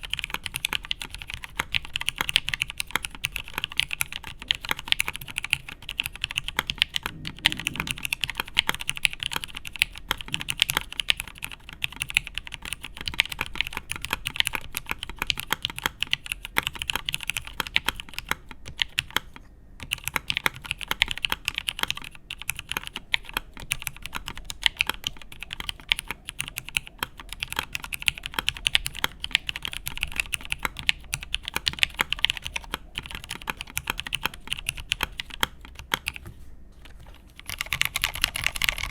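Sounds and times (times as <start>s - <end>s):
fast mechanical keyboard typing: 0.0s - 36.3s, 37.0s - 38.9s.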